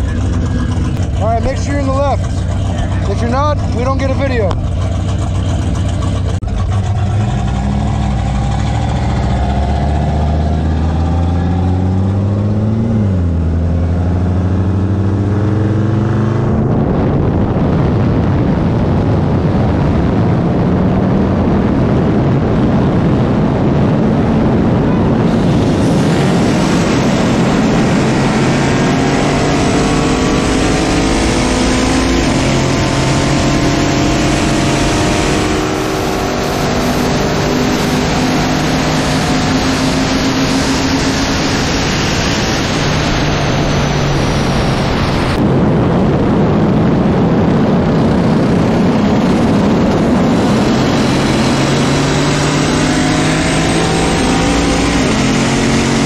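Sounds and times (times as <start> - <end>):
engines accelerating at full throttle: 0.0 - 56.0
wind rush on microphone: 0.0 - 56.0.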